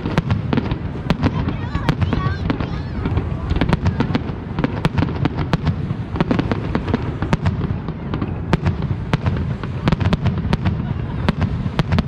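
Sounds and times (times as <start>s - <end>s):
fireworks cracks and bangs: 0.0s - 12.0s.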